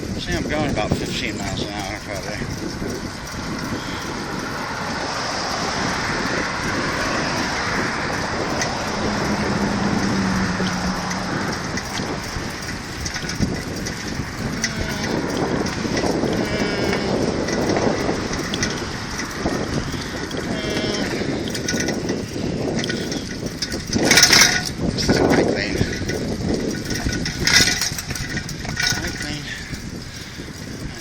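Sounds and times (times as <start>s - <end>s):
bicycle road noise: 0.0s - 31.0s
small rattles and clicks: 0.0s - 31.0s
wind rushing over microphone: 0.0s - 31.0s.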